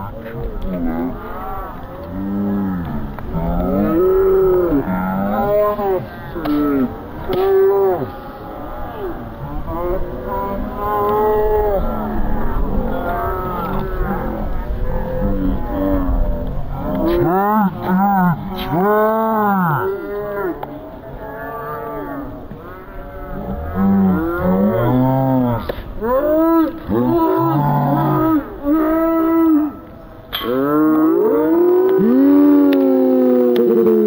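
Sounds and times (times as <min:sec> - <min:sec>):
people making wordless calls: 0:00.0 - 0:34.0.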